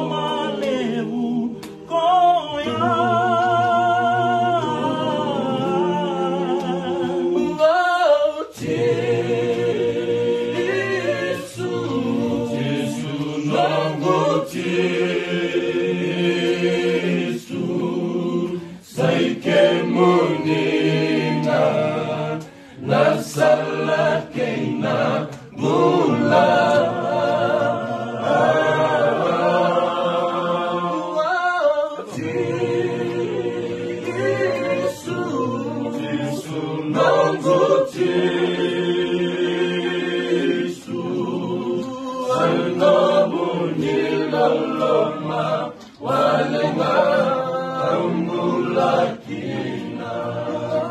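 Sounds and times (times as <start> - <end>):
men singing unaccompanied: 0.0 - 50.9.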